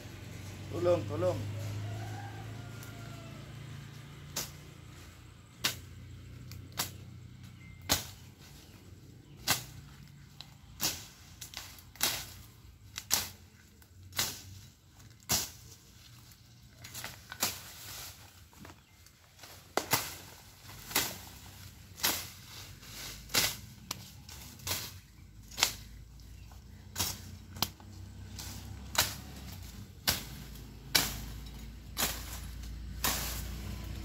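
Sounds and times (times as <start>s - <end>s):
blade cutting through weeds: 4.2s - 34.0s.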